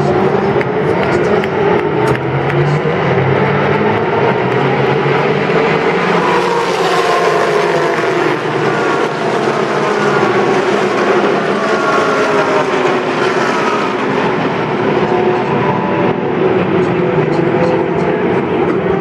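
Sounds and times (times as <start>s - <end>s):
race cars at full throttle: 0.0s - 19.0s.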